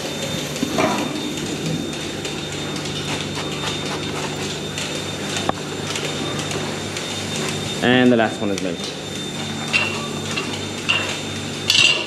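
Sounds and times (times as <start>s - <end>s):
milking machine vacuum pump hum: 0.0s - 12.0s.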